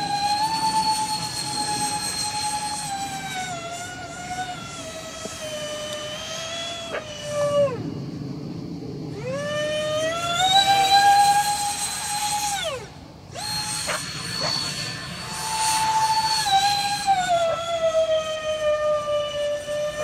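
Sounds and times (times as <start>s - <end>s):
model jet fans whining: 0.0s - 20.0s.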